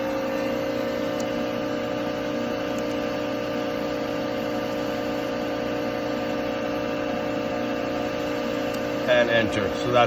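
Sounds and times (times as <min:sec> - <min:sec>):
hydraulic press pump humming: 0:00.0 - 0:10.0.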